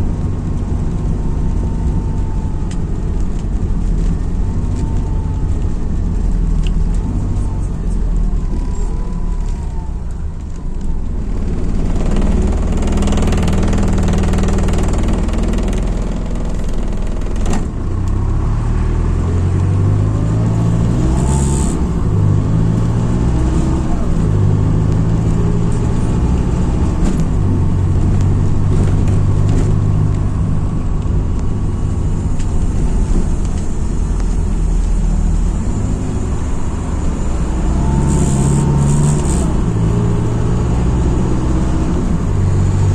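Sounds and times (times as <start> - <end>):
bus diesel engine accelerating: 0.0 - 42.9.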